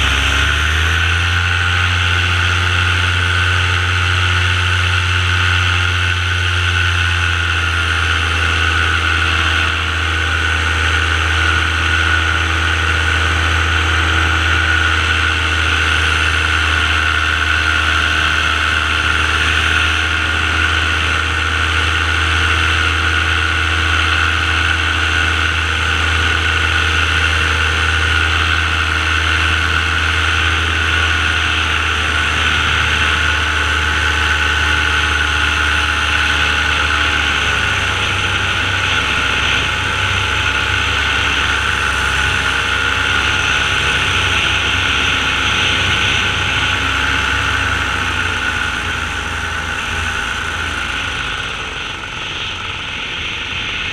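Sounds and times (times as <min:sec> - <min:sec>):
paramotor engine droning: 0:00.0 - 0:53.9.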